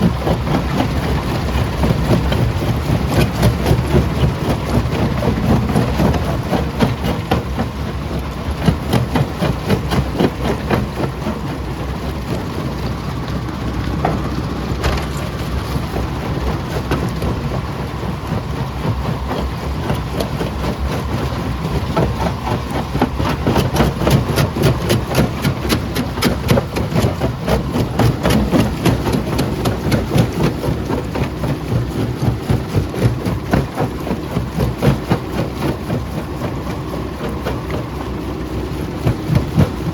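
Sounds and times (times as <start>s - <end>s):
heavy machine noise: 0.0s - 39.9s.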